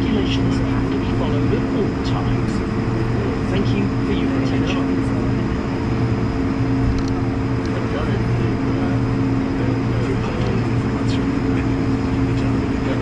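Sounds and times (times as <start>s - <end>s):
airliner engines humming: 0.0s - 13.0s
faint voices murmuring: 0.0s - 13.0s.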